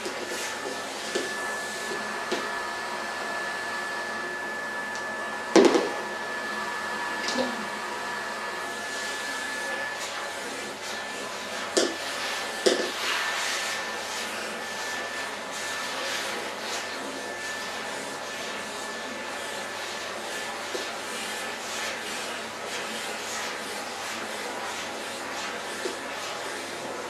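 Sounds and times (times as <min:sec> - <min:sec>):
vacuum cleaner whining: 0:00.0 - 0:27.0.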